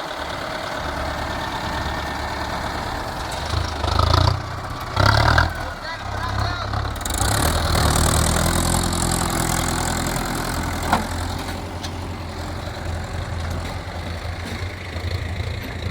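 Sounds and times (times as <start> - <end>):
tractor diesel engine idling: 0.0 - 15.9.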